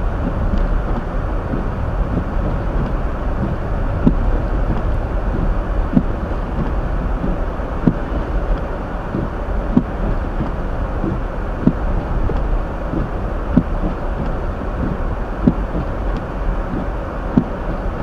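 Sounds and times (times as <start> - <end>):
road and tyre rumble in car: 0.0 - 18.0.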